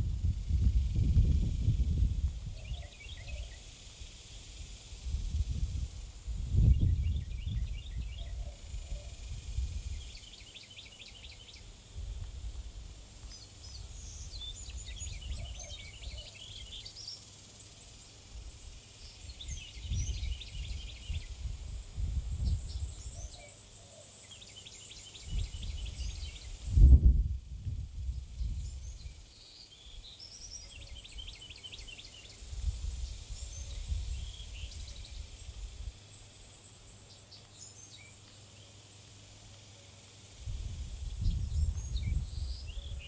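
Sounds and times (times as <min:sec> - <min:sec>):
small birds chirping and trilling: 0:00.2 - 0:43.0.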